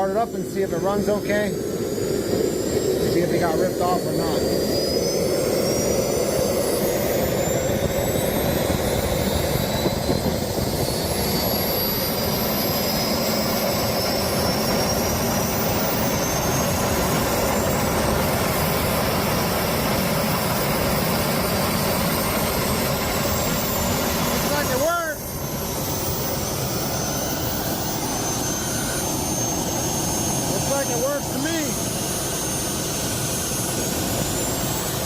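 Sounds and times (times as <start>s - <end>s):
high turbine whine: 0.0s - 35.0s
small jet engine running: 0.0s - 35.0s.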